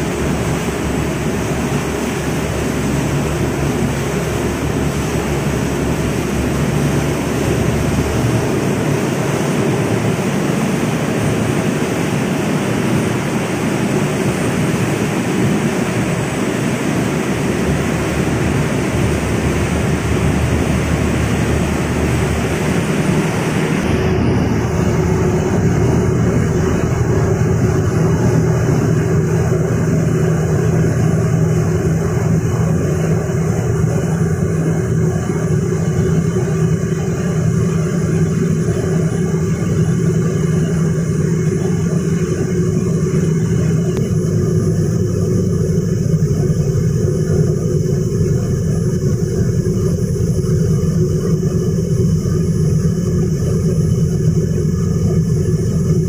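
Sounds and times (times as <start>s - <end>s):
ferry engines droning: 0.0s - 56.0s
rush of churning wake: 0.0s - 56.0s
wind on deck: 0.0s - 56.0s.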